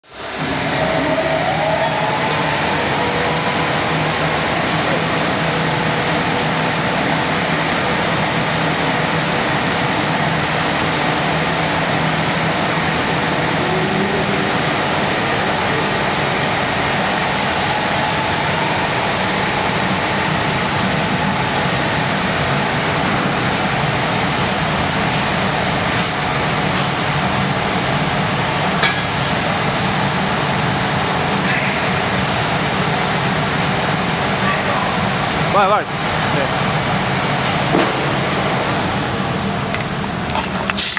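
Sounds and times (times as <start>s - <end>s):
glass washing machine running: 0.0s - 40.5s.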